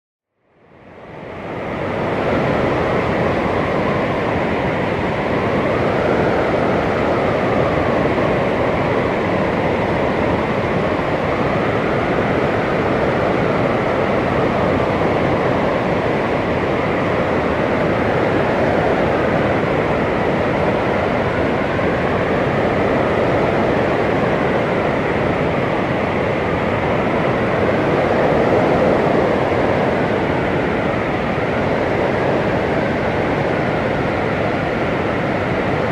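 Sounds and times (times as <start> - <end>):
blizzard wind rushing: 0.6 - 35.9
faint wind whistle: 0.6 - 35.9.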